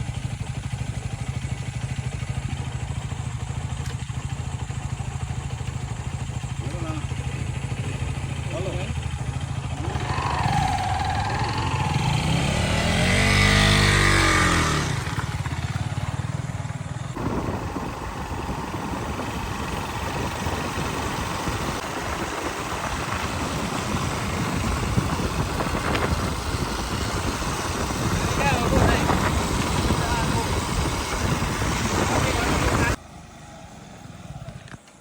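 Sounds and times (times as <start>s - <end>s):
motorcycle engine revving: 0.0s - 35.0s
motorcycle running rough rumble: 0.0s - 35.0s.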